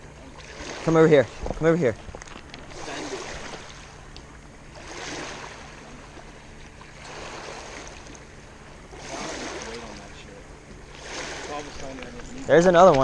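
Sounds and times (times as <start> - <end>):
small waves lapping on gravel: 0.4 - 13.0.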